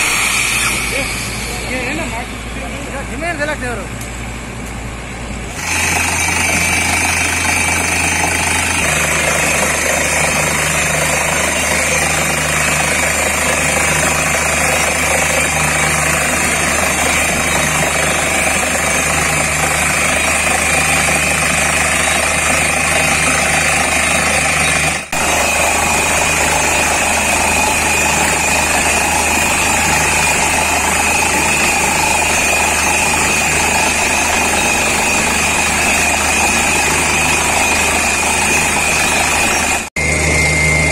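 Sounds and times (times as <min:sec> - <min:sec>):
air compressor blowing cuttings: 0:00.0 - 0:04.1, 0:05.5 - 0:40.9
drilling rig engine running: 0:00.0 - 0:40.9.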